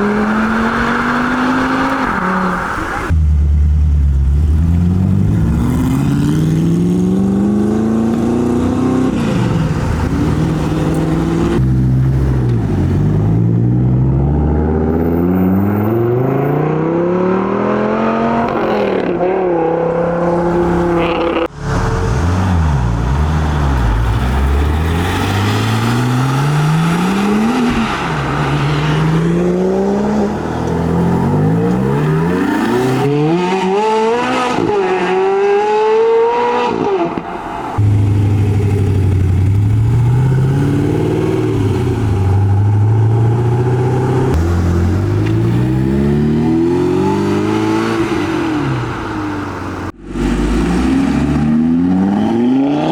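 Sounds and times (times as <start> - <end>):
car engines accelerating and revving: 0.0 - 52.9.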